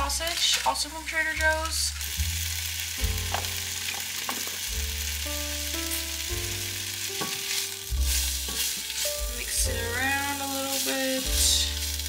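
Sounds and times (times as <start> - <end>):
background music: 0.0 - 12.0
sausage sizzling in a frying pan: 0.0 - 12.0.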